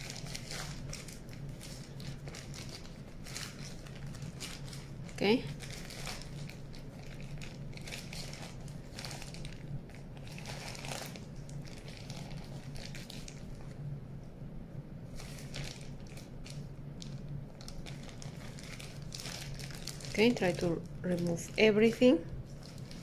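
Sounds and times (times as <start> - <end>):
plastic bag crinkling: 0.0 - 13.8, 15.1 - 23.0
steady low hum: 0.0 - 23.0.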